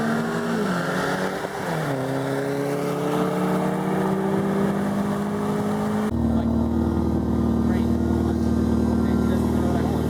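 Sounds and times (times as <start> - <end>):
car engine pulling through gears: 0.0 - 10.0.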